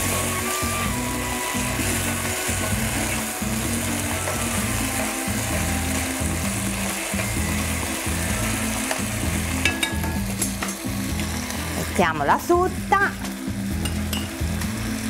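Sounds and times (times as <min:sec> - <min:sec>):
background music: 0:00.0 - 0:15.0
food sizzling in a frying pan: 0:00.0 - 0:15.0.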